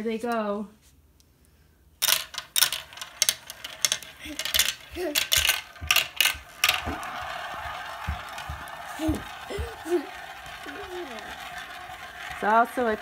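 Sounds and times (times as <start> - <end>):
marble rolling in plastic bowl: 2.0 - 13.0
marbles clattering on plastic track: 2.0 - 13.0.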